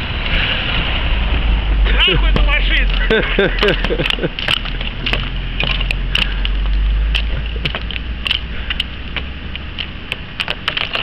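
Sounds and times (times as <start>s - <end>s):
steady low rumble: 0.0s - 11.0s
ice clicking and cracking: 2.0s - 11.0s.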